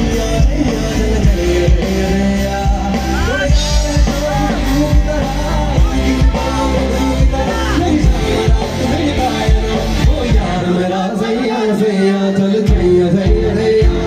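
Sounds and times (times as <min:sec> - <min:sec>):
electric guitar: 0:00.0 - 0:14.0
keyboard: 0:00.0 - 0:14.0
man singing: 0:00.0 - 0:14.0
steady drum beat: 0:00.0 - 0:14.0.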